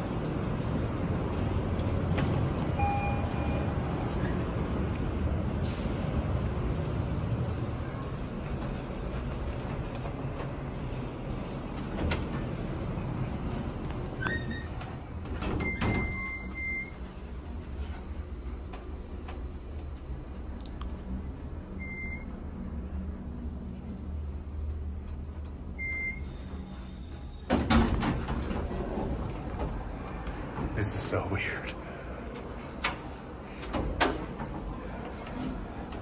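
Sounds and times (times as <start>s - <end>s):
elevator doors sliding open: 0.0s - 36.0s
elevator humming: 0.0s - 36.0s.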